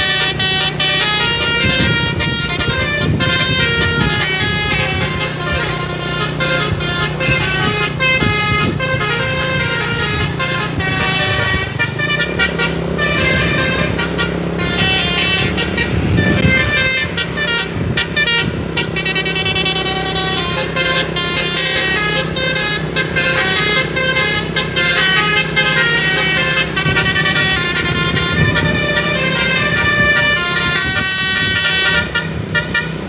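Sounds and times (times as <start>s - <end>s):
bus engine running: 0.0s - 33.0s
musical air horn: 0.0s - 33.0s.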